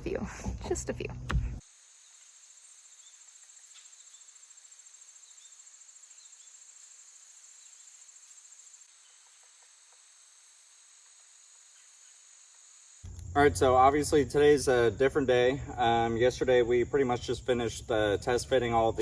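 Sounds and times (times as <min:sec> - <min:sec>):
insect chorus buzzing: 0:01.2 - 0:19.0
fast pulsed insect trill: 0:01.6 - 0:19.0.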